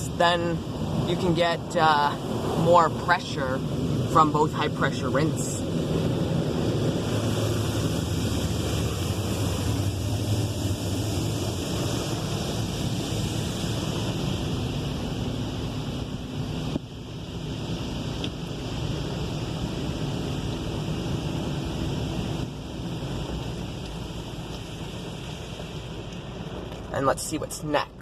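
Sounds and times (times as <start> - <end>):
low pump hum: 0.0 - 28.0
water jets spraying: 4.4 - 27.8.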